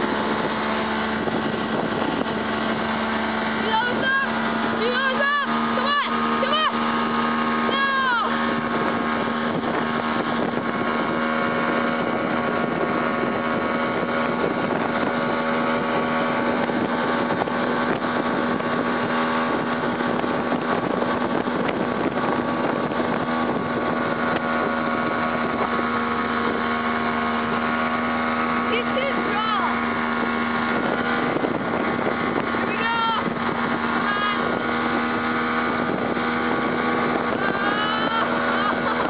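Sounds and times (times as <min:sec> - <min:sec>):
outboard motor droning: 0:00.0 - 0:39.0
rushing water: 0:00.0 - 0:39.0
wind: 0:00.0 - 0:39.0.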